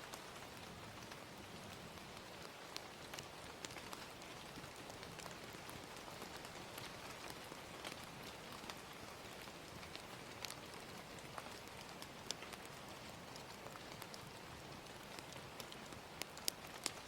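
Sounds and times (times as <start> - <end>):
fire crackling: 0.0 - 17.0
gentle rain hiss: 0.0 - 17.0.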